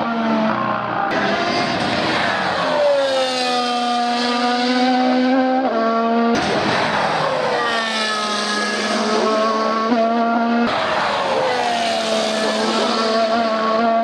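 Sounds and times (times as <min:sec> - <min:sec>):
race cars passing at high revs: 0:00.0 - 0:14.0.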